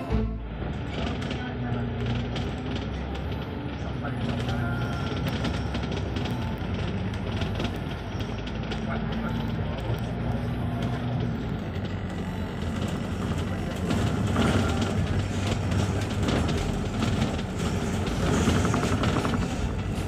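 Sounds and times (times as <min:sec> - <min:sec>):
bus body rattling: 0:00.0 - 0:20.0
bus engine hum: 0:00.0 - 0:20.0
road noise: 0:00.0 - 0:20.0.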